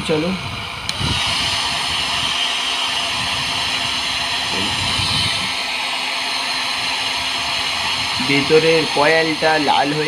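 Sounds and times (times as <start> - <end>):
hair dryer running: 0.0 - 10.0.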